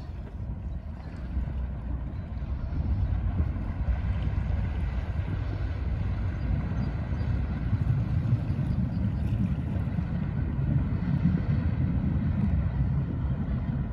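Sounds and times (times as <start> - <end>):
ferry engine drone: 0.0 - 13.9
wind buffeting microphone: 0.0 - 13.9.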